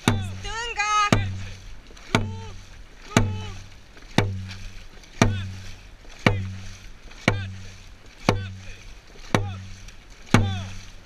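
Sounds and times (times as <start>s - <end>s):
drum beats booming: 0.0s - 4.6s, 5.2s - 10.9s.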